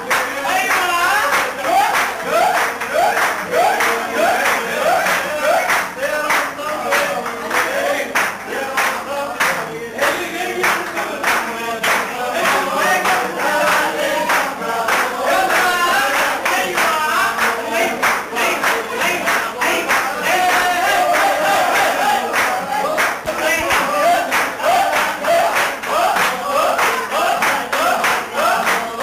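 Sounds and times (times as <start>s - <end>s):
group of people singing: 0.0s - 29.0s
rhythmic hand-clapping: 0.0s - 29.0s.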